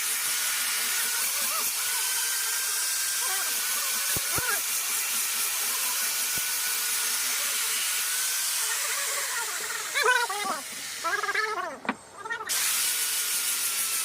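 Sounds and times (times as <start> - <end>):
power tool on wood: 0.0 - 14.0.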